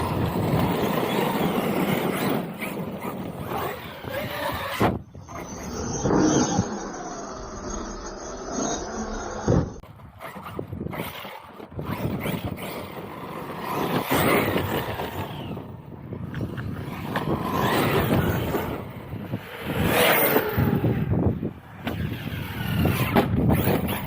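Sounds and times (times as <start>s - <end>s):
electric motor whining: 0.0s - 24.0s
tyre and ground noise: 0.0s - 24.0s.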